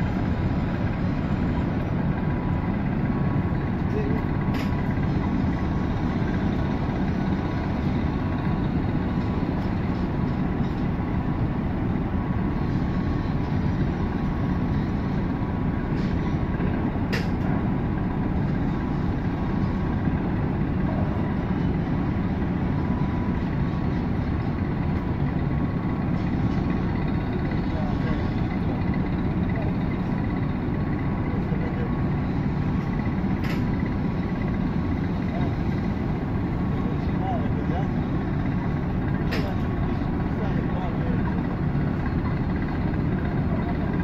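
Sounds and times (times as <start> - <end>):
diesel engines rumbling: 0.0 - 44.0.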